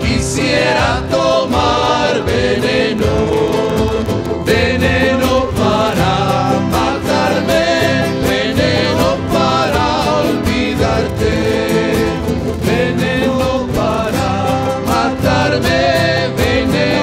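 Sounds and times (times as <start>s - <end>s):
strummed acoustic guitars: 0.0s - 17.0s
voices singing together: 0.0s - 17.0s.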